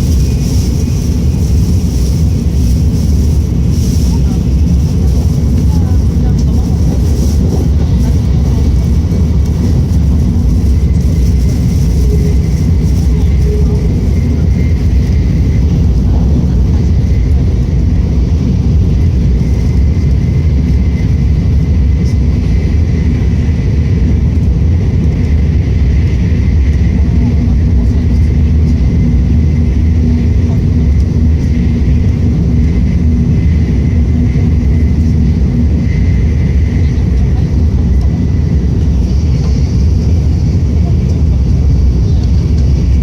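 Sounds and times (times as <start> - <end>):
train cabin rumble: 0.0 - 43.0.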